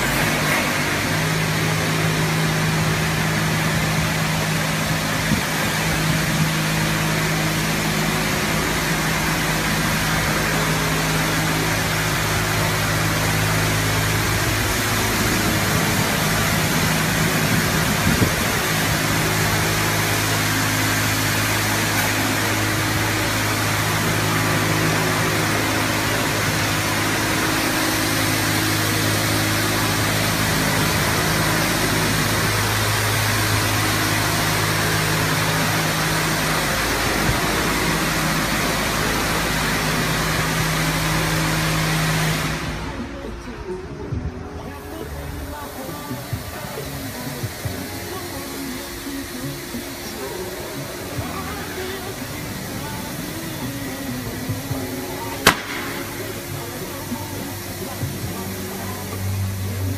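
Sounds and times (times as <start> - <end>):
high-pressure water spray hissing: 0.0 - 43.0, 44.7 - 59.9
pump motor hum: 0.0 - 59.9.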